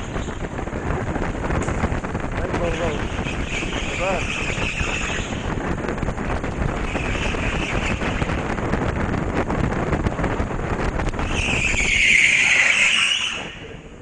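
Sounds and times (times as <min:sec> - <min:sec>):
go-kart engine and tyres: 0:00.0 - 0:14.0.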